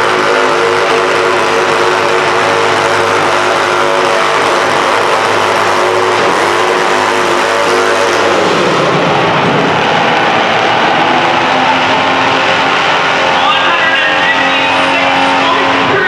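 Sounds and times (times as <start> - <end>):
garden tractor engine revving loud: 0.0 - 16.0.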